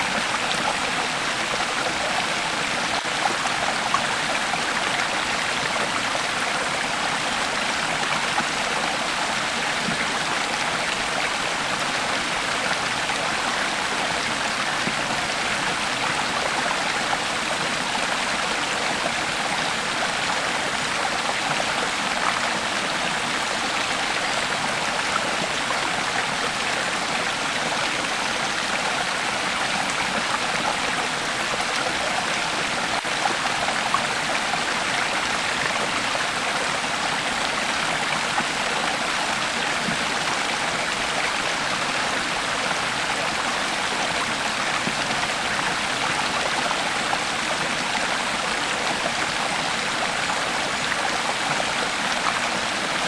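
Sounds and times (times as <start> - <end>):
creek water flowing over stones: 0.0 - 53.0.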